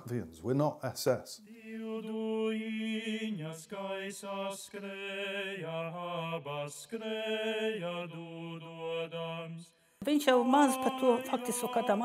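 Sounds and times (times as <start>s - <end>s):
low voice chant-like singing: 1.4s - 12.0s.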